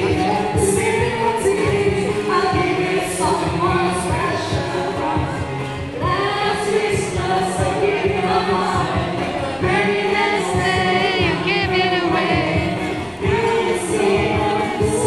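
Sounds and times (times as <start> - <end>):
low accompaniment beat: 0.0 - 15.0
mixed choir singing: 0.0 - 15.0.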